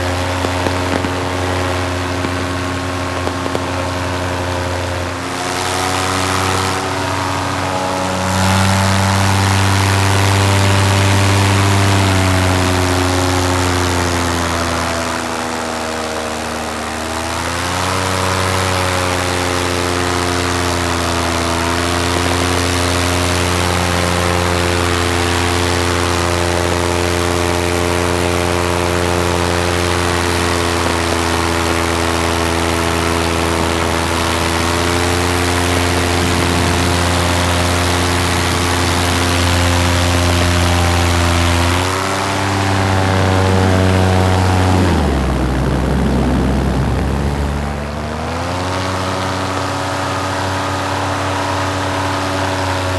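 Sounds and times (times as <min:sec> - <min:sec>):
paramotor engine and propeller: 0:00.0 - 0:52.9.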